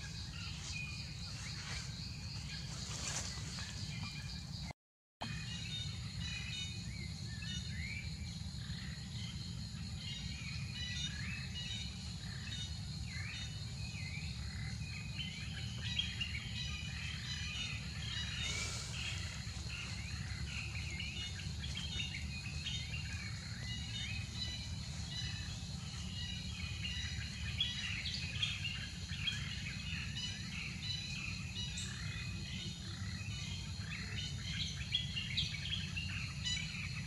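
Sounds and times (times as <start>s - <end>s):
small birds chirping: 0.0s - 37.0s
steady low hum: 0.0s - 37.0s.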